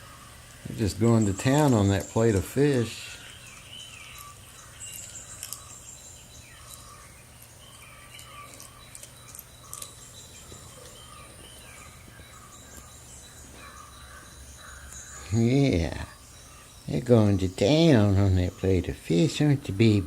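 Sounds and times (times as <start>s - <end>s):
chirping: 0.0s - 20.0s
steady low hum: 0.0s - 20.0s.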